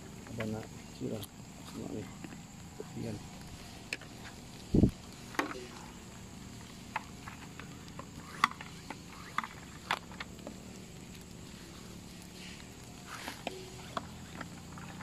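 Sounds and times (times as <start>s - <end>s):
insect noise: 0.0s - 15.0s.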